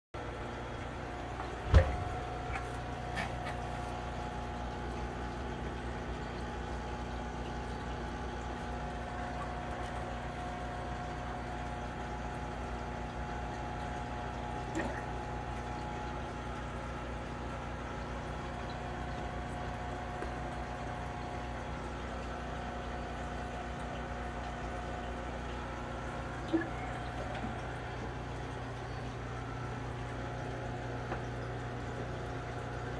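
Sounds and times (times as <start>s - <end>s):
aquarium pump hum: 0.2s - 32.9s
water trickling: 0.2s - 32.9s.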